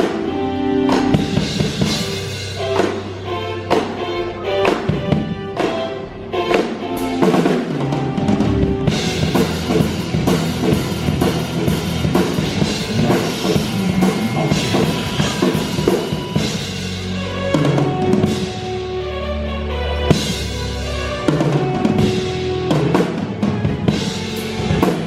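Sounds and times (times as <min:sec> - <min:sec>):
drum kit beat: 0:00.0 - 0:18.7, 0:20.1 - 0:25.0
live band playing: 0:00.0 - 0:25.0.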